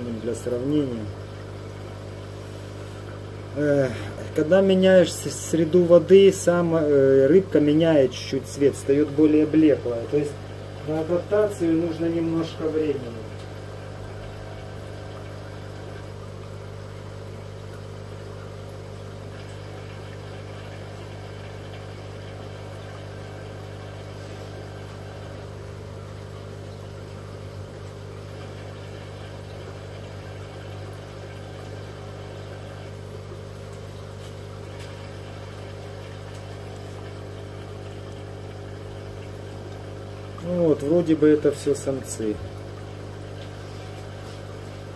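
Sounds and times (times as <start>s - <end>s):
aquarium air pump humming: 0.0s - 44.9s.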